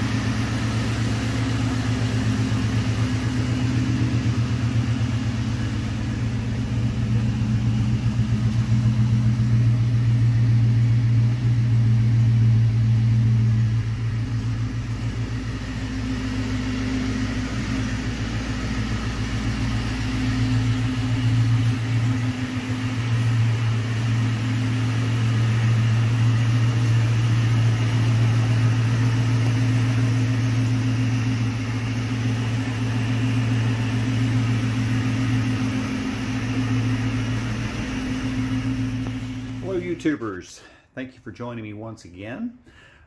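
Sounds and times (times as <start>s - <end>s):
car engine idling: 0.0s - 40.8s.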